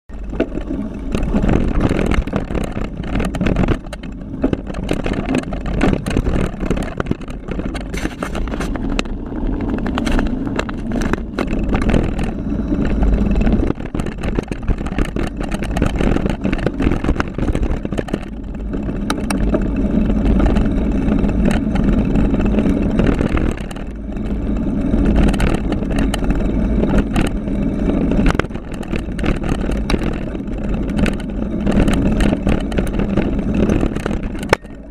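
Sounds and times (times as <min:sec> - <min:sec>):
bike knocking over bumps: 0:00.1 - 0:34.9
bike rattling: 0:00.1 - 0:34.9
wind rumbling on microphone: 0:00.1 - 0:34.9.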